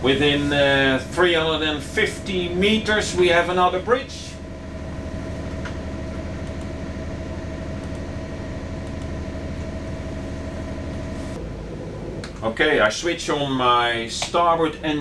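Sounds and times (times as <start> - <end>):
boat diesel engine droning: 0.0 - 15.0.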